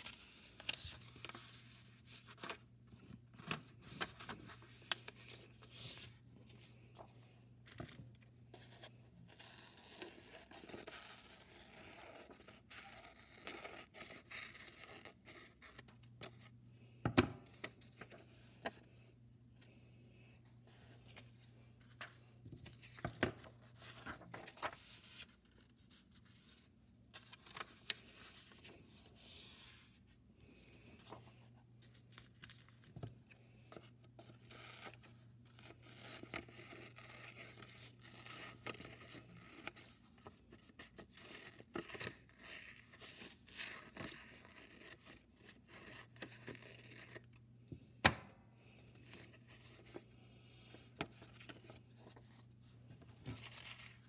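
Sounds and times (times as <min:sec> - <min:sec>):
paper rustling: 0:00.0 - 0:13.0, 0:20.7 - 0:47.2, 0:48.8 - 0:54.0.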